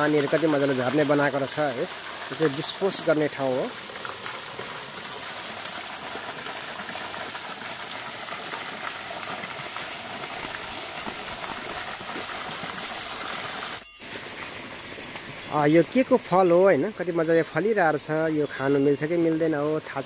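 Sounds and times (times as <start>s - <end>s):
water jet splashing onto pond: 0.0s - 20.0s.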